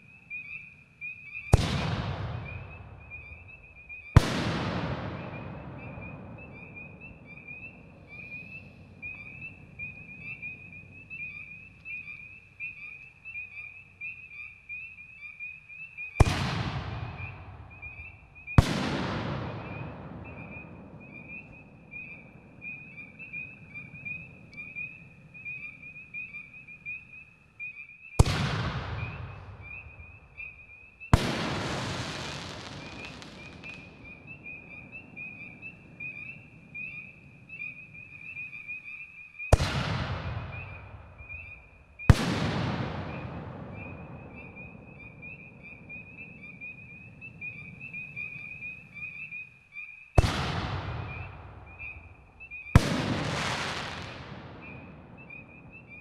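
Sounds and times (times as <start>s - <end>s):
night insects chirping: 0.0s - 56.0s.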